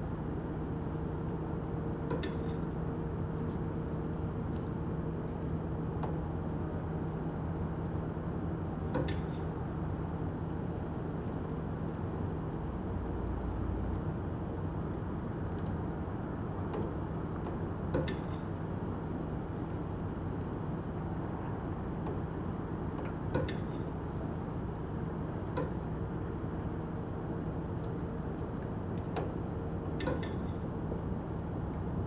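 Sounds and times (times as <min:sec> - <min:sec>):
low mechanical rumble and hum: 0:00.0 - 0:32.0.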